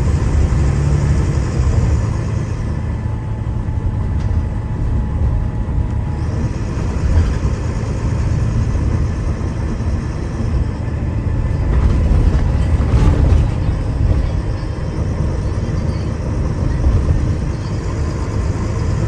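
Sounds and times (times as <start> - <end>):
bus diesel engine rumble: 0.0 - 19.0
road noise: 0.0 - 19.0.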